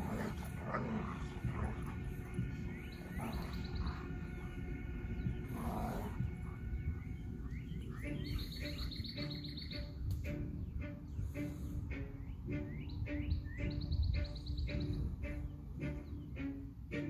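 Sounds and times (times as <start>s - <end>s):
low repeating bird note: 0.0s - 16.7s
songbirds chirping in trills: 0.0s - 17.0s.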